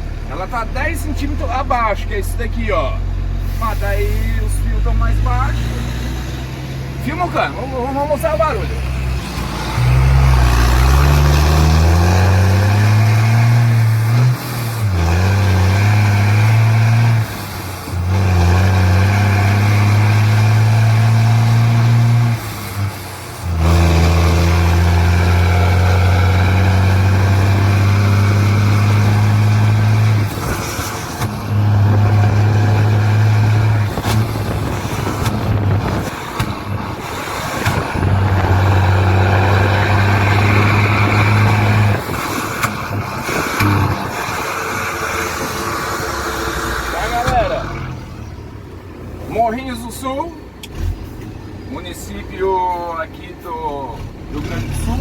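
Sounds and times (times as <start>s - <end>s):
truck exhaust rumbling: 0.0s - 55.0s.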